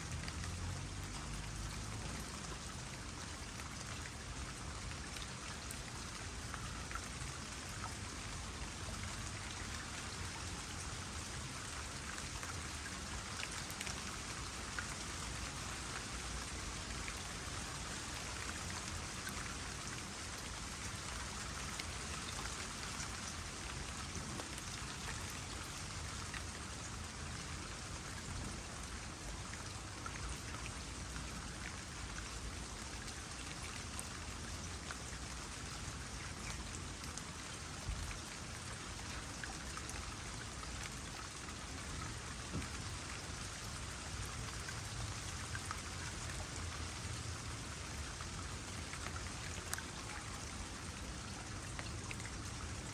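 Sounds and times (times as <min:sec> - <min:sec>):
light rain pattering on pond: 0:00.0 - 0:52.9
water trickling: 0:00.0 - 0:52.9.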